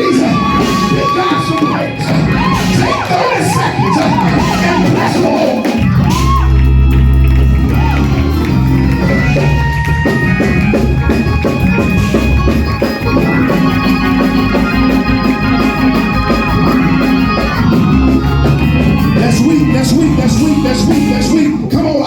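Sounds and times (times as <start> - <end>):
fast percussive beat: 0.0 - 22.0
organ playing held chords: 0.0 - 22.0.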